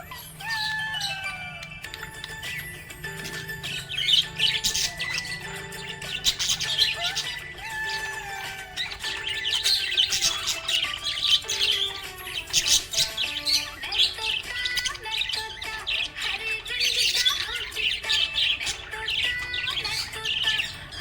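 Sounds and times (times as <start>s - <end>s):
budgerigars chirping: 0.0s - 21.0s
soft melody of held notes: 0.0s - 21.0s.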